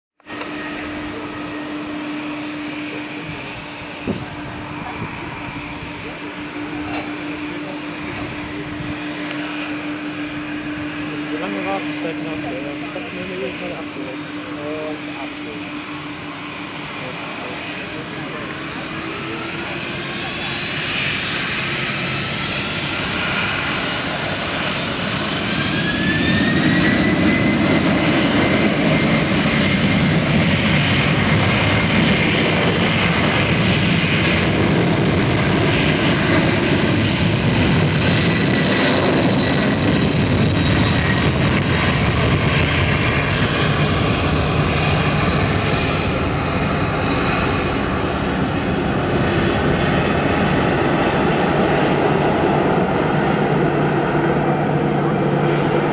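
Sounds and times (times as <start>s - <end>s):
jet engines spooling up: 0.3s - 55.9s.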